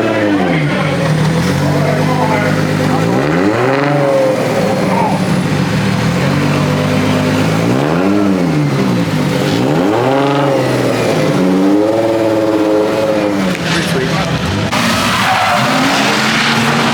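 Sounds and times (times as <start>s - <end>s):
car engine revving hard: 0.0s - 16.9s.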